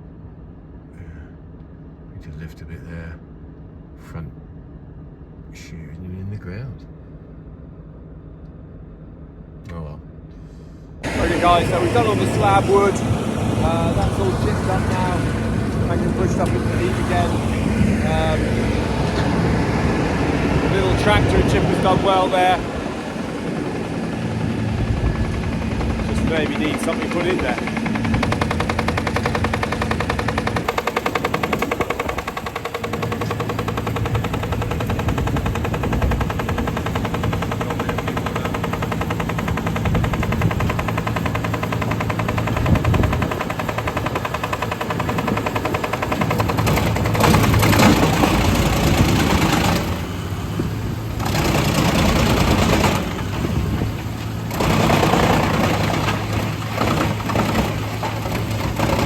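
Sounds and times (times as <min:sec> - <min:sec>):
tractor diesel engine clattering: 0:09.7 - 0:59.0.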